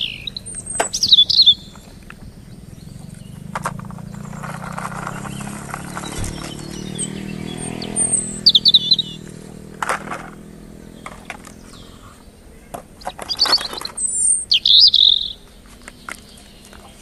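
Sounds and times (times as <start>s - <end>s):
low steady droning hum: 0.0s - 14.6s
bird chirping: 0.0s - 17.0s.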